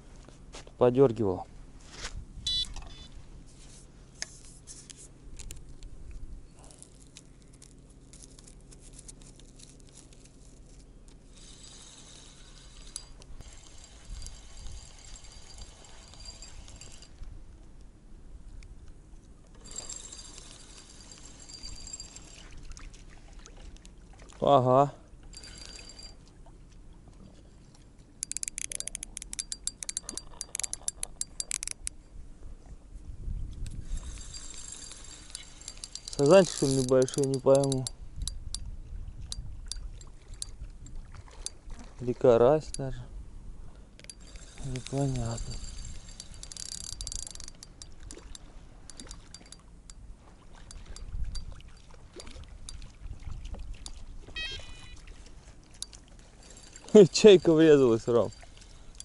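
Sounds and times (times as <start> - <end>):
fishing reel clicks and rustles: 2.5 - 17.9, 18.5 - 24.0, 24.6 - 26.7, 27.3 - 32.2, 33.5 - 43.0, 43.8 - 59.0.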